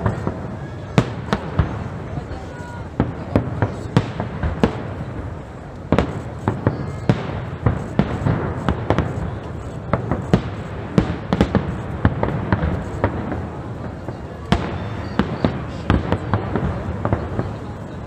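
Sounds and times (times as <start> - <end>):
firework bangs: 0.0 - 18.0
rumbling crackle: 0.0 - 18.0.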